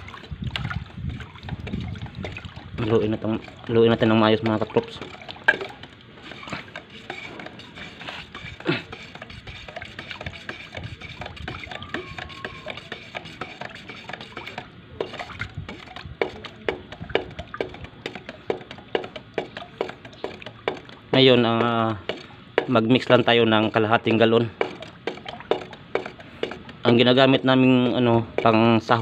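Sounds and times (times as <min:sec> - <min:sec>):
scrapes against metal can: 0:00.0 - 0:22.8, 0:24.4 - 0:29.0
stick stirring paint in metal can: 0:00.0 - 0:29.0.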